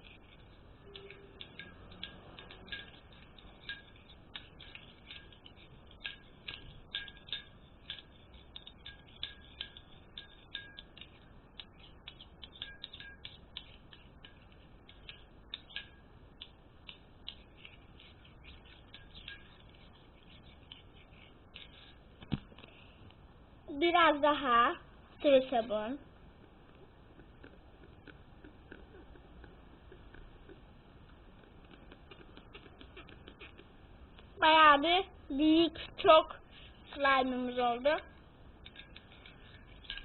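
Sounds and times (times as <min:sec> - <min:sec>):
spoon stirring sticky slime: 0:00.0 - 0:23.0, 0:23.7 - 0:40.0.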